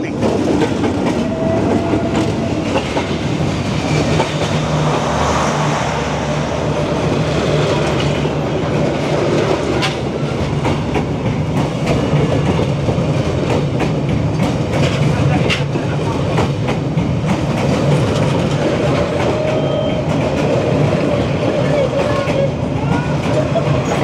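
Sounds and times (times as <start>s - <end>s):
train wheels rumbling on track: 0.0s - 24.0s
wheels clacking over rail joints: 0.1s - 5.4s, 6.6s - 24.0s.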